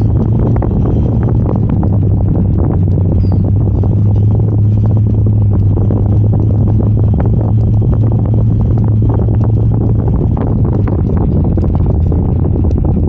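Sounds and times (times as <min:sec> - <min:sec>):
knocks and rattles: 0:00.0 - 0:13.0
vehicle engine and tyres droning: 0:00.0 - 0:13.0.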